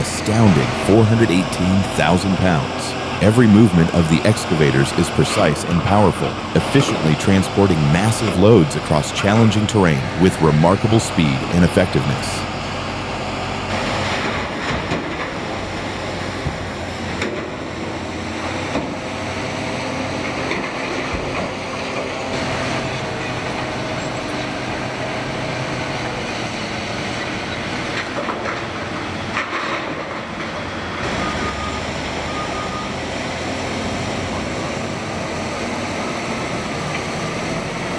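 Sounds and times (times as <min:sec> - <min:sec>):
heavy diesel machinery running: 0:00.0 - 0:37.9.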